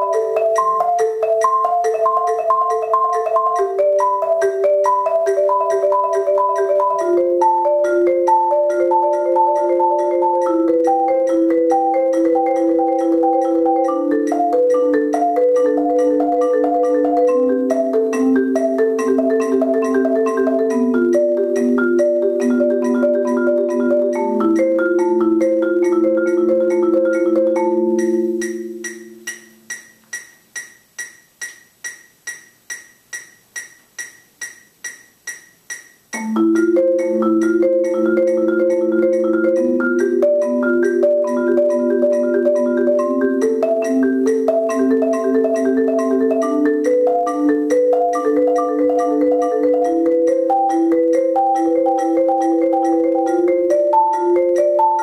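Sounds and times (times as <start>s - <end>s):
marimba playing fast chords: 0.0s - 30.0s, 36.2s - 55.0s
metronome ticking: 0.0s - 55.0s.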